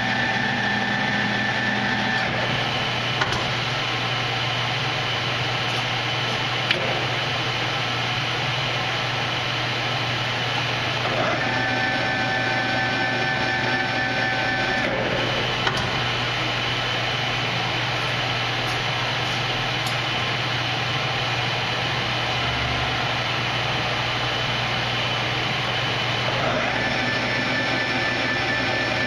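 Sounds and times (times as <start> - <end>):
lathe motor hum with gear whine: 0.0 - 29.0.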